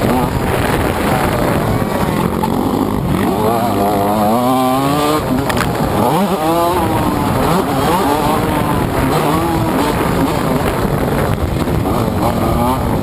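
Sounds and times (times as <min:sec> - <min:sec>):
motocross engine revving: 0:00.0 - 0:13.0
wind noise: 0:00.0 - 0:13.0.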